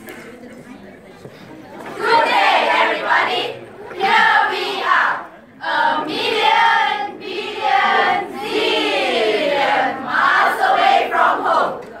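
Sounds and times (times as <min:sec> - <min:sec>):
women's voices chanting in unison: 0:01.9 - 0:11.9.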